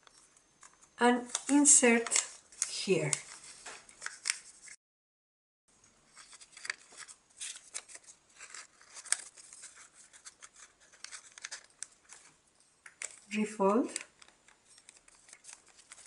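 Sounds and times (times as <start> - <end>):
paper rustling and crackling: 0.0 - 4.8, 6.1 - 16.0.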